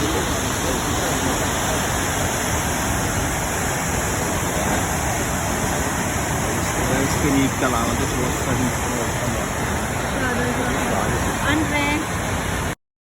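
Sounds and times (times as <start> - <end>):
rush of waterfall: 0.0 - 12.8.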